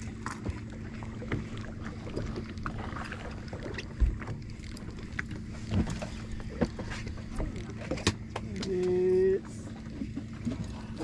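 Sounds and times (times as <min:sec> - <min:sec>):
boat engine hum: 0:00.0 - 0:11.0.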